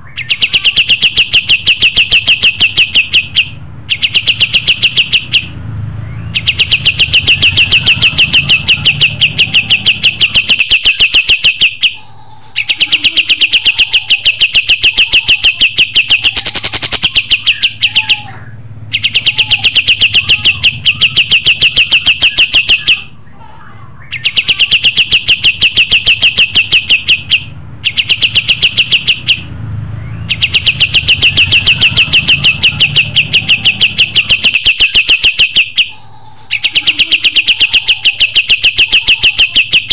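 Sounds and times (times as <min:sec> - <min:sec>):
songbird trilling: 0:00.0 - 0:23.2, 0:24.0 - 0:39.9.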